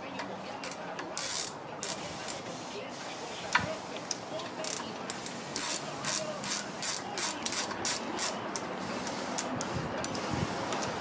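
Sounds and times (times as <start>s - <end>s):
ratchet pawl clicking: 0.2s - 2.4s, 4.0s - 11.0s.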